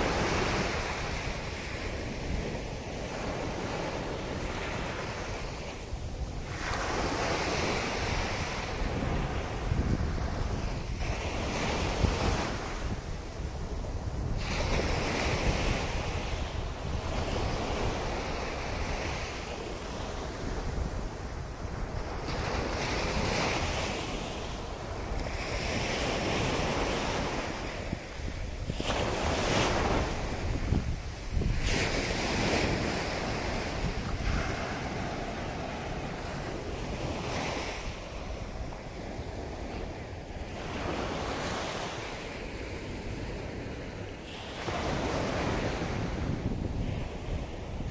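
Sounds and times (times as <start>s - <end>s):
waves breaking on beach: 0.0s - 47.9s
wind rumbling on microphone: 0.0s - 47.9s.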